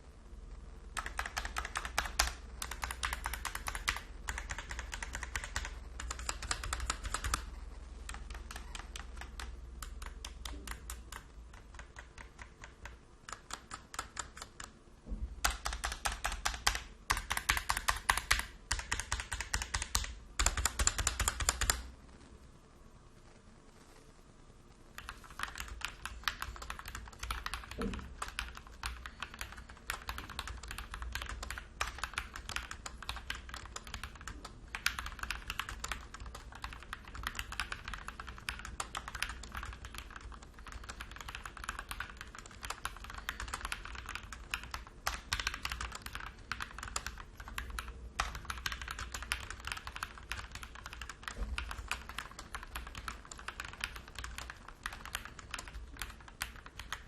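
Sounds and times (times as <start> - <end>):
mechanical keyboard typing: 0.9 - 14.8, 15.4 - 21.9, 25.0 - 57.0.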